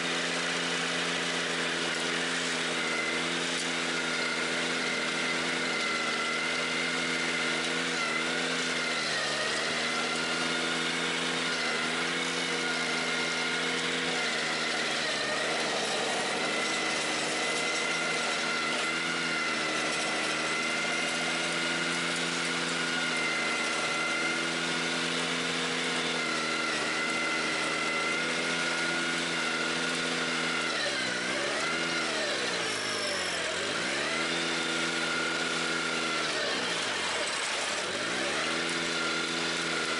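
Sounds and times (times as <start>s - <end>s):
stump grinder cutting: 0.0s - 39.9s
tractor engine running under load: 0.0s - 39.9s.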